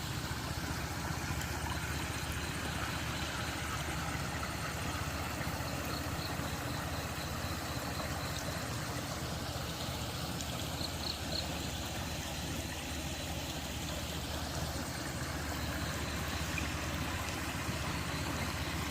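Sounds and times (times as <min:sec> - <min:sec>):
rushing water: 0:00.0 - 0:18.9.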